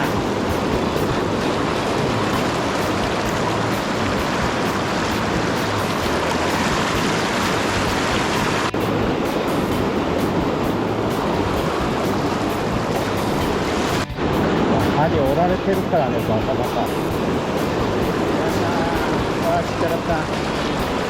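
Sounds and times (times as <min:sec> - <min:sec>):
fast-flowing river: 0:00.0 - 0:21.0.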